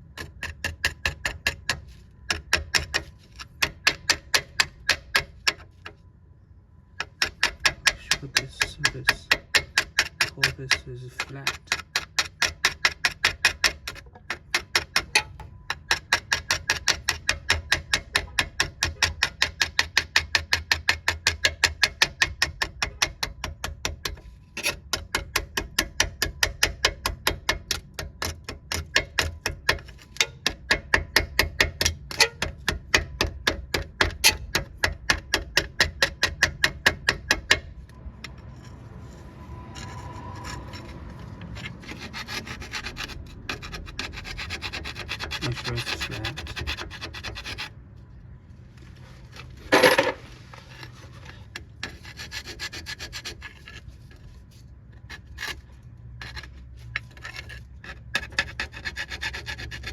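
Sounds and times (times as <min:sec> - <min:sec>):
hand tool scraping rusty metal: 0:00.0 - 0:06.0, 0:06.9 - 0:47.8, 0:48.8 - 0:59.9.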